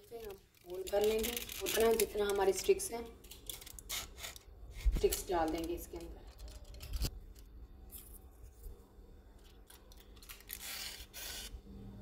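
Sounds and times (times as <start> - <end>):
aluminium foil crinkling: 0.0 - 8.2, 9.4 - 11.6.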